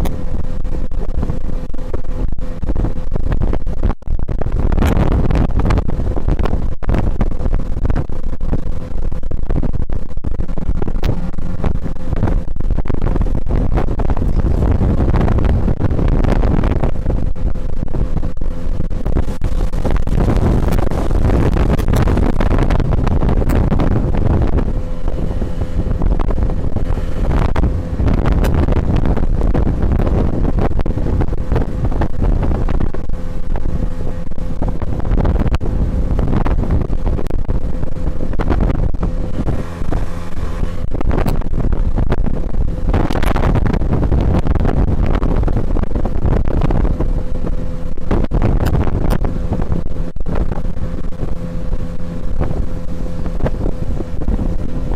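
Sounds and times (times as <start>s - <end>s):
outboard motor running: 0.0s - 54.9s
wind buffeting microphone: 0.0s - 54.9s.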